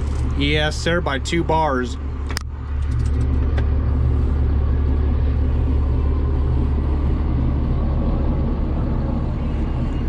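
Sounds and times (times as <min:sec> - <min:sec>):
tractor engine droning: 0:00.0 - 0:10.0.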